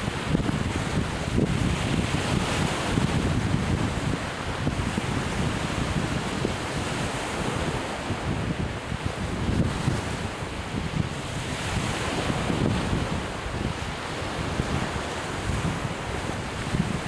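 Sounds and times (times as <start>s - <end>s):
surf on a beach: 0.0s - 17.0s
wind buffeting microphone: 0.0s - 17.0s.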